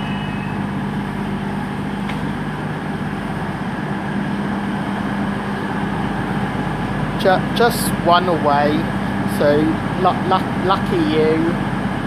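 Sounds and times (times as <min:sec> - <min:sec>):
train diesel engines idling: 0:00.0 - 0:12.0.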